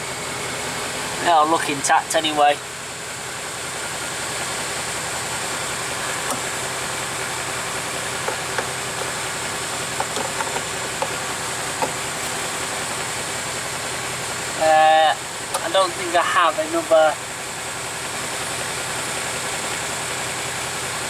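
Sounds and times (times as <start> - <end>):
bus diesel engine idling: 0.0 - 21.0.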